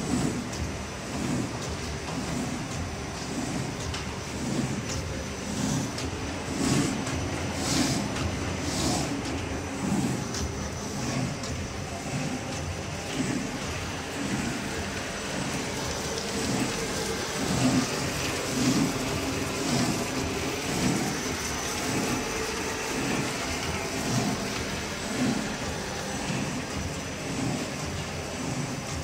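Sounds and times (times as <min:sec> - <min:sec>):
paper cutting machine clattering: 0:00.0 - 0:29.0.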